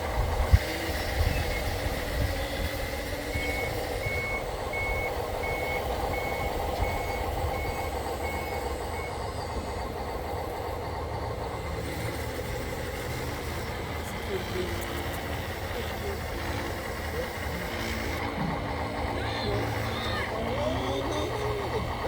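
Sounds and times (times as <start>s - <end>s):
reversing alarm beeping: 0.5s - 22.0s.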